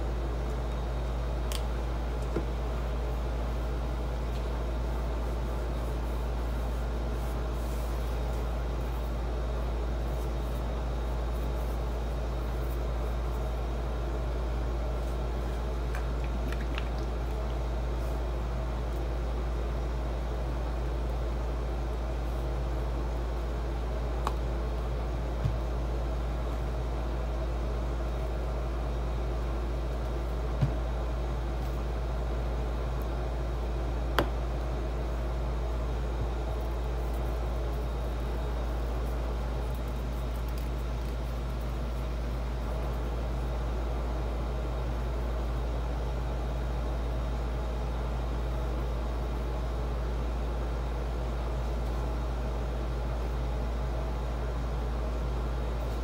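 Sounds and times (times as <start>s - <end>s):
low hum and hiss: 0.0s - 56.0s.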